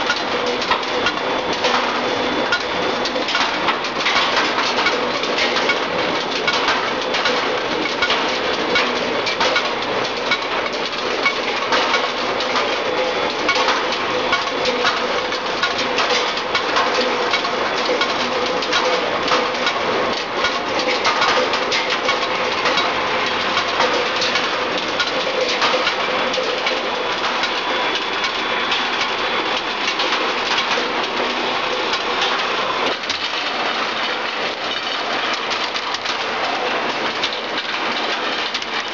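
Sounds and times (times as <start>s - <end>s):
rolling machine clattering: 0.0s - 38.9s.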